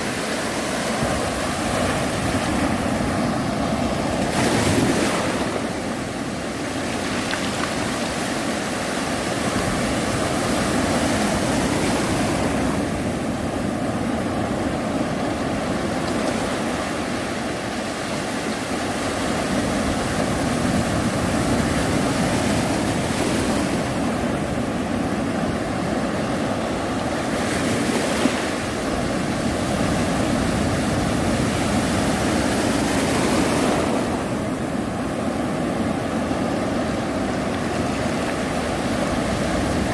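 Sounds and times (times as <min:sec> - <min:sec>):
sea waves crashing on beach: 0:00.0 - 0:39.9.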